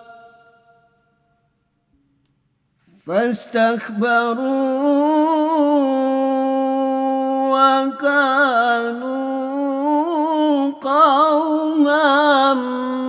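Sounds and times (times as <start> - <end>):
person chanting a recitation: 0.0 - 0.8, 3.1 - 13.0.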